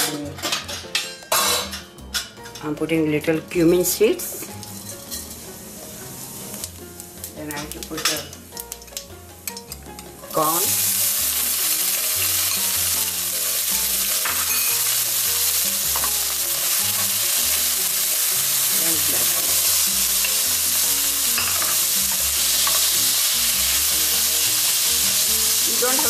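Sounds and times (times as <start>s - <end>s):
vegetables sizzling in frying pan: 3.6s - 26.0s.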